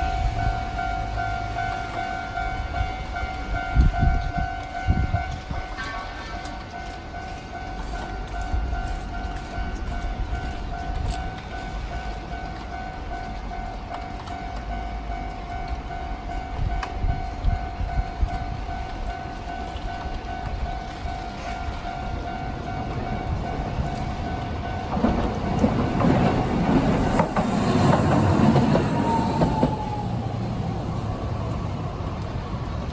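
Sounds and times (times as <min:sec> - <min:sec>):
streetcar motor whine: 0:00.0 - 0:32.9
streetcar rumble: 0:00.0 - 0:32.9.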